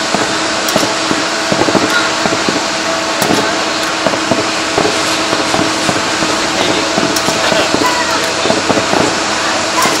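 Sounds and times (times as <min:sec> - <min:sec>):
distant firework pops and crackles: 0:00.0 - 0:10.0
jet aircraft hum and whine: 0:00.0 - 0:10.0.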